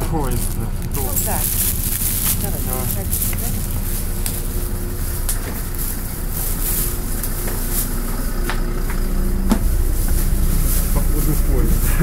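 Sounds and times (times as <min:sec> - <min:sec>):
bus body rattling: 0:00.0 - 0:12.0
bus engine humming: 0:00.0 - 0:12.0.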